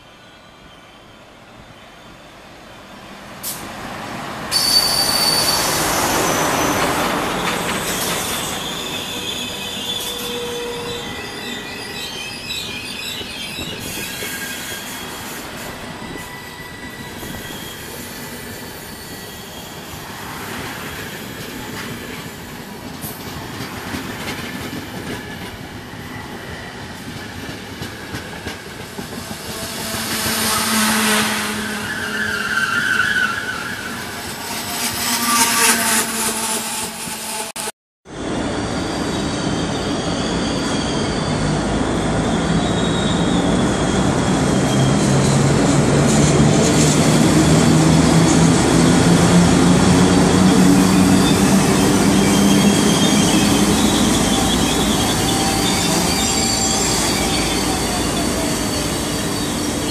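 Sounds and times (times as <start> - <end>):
electric locomotive passing: 0.0 - 59.9
train coaches rumbling on rails: 2.2 - 37.5, 38.1 - 59.9
high wheel squeal: 4.5 - 22.5, 24.5 - 59.9.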